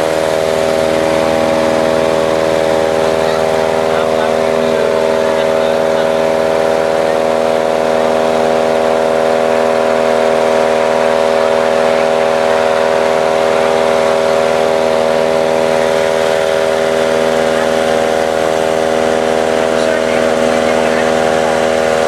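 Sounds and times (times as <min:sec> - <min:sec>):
machine droning steadily: 0:00.0 - 0:22.0.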